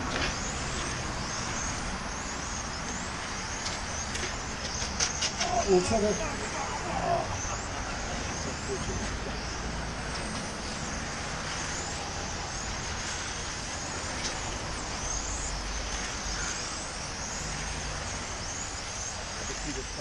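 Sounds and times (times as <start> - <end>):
steady background rush: 0.0 - 20.0.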